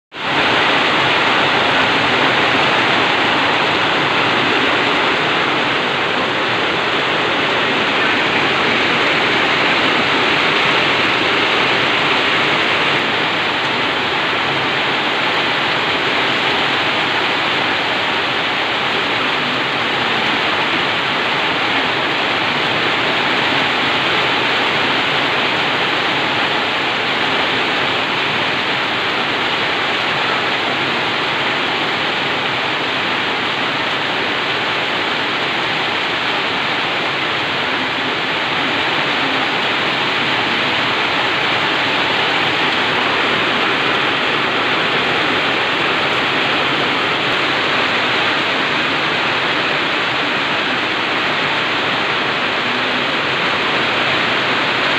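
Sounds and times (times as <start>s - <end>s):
heavy rain pouring: 0.1s - 54.9s.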